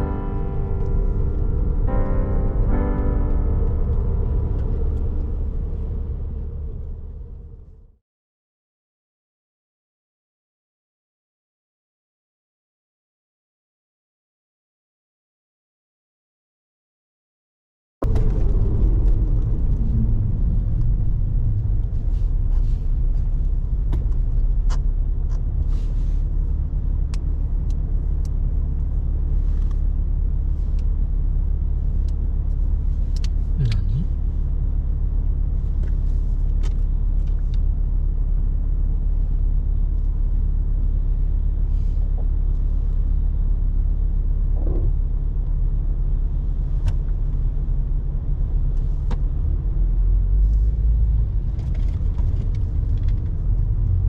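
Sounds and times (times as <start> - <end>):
car engine rumbling: 0.0 - 8.0, 18.0 - 54.0.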